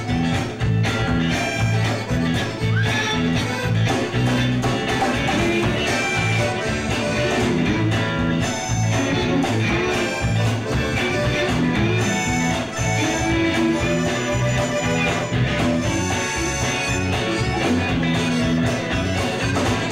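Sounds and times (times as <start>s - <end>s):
bass and drums beat: 0.0s - 19.9s
electric guitars: 0.0s - 19.9s
fiddle: 0.0s - 19.9s.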